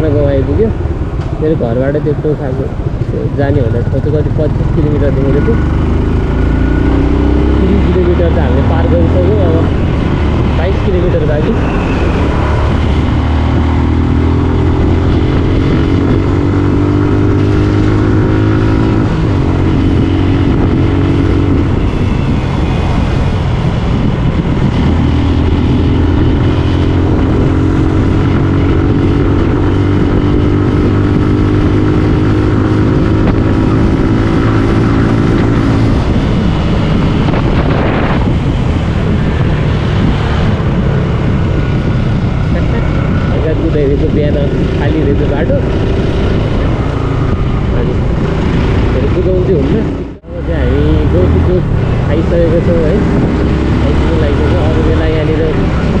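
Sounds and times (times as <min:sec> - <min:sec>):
low rumble: 0:00.0 - 0:56.0
motorcycle engine accelerating: 0:00.0 - 0:56.0.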